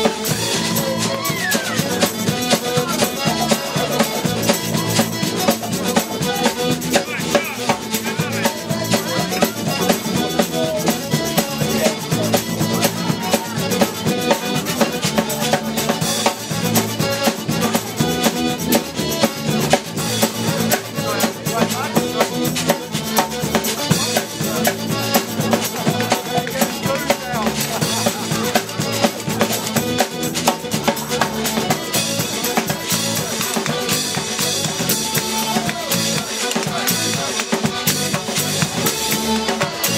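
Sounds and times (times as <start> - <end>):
drum kit beat: 0.0 - 39.9
electric bass guitar: 0.0 - 39.9
tuba bass line: 0.0 - 39.9.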